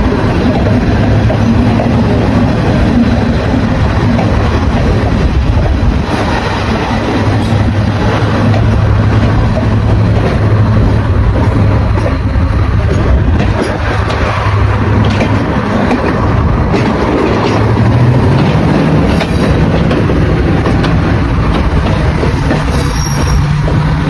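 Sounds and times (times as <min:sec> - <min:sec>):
train passing with low drone: 0:00.0 - 0:24.0.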